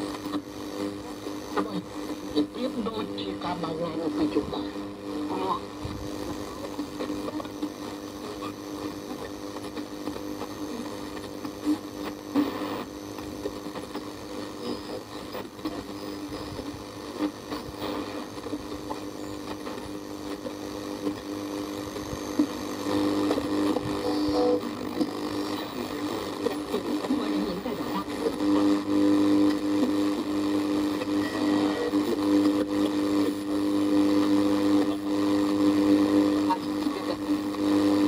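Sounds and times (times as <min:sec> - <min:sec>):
radio crackles: 0:00.0 - 0:38.0
radio static with buzzing hum: 0:00.0 - 0:38.0.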